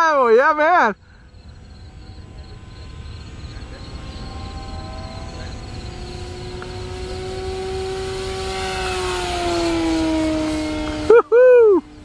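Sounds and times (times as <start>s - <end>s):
model plane motor whining: 1.2s - 12.0s.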